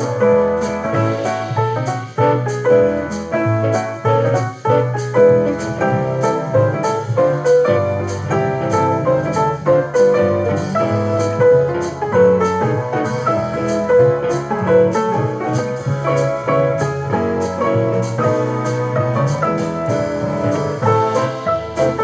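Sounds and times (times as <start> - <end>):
piano chords: 0.0 - 22.0
steady drum beat: 0.0 - 22.0.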